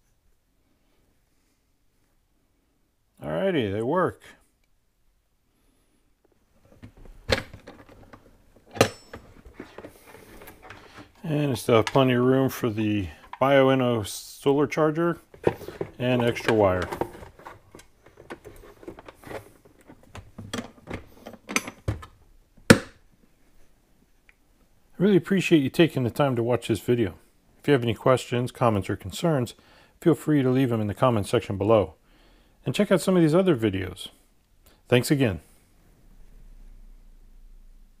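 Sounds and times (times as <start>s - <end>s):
faint low room hum: 0.0s - 38.0s.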